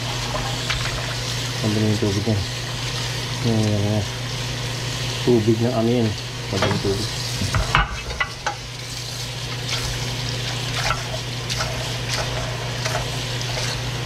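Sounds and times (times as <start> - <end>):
faucet water splashing in sink: 0.0 - 14.0.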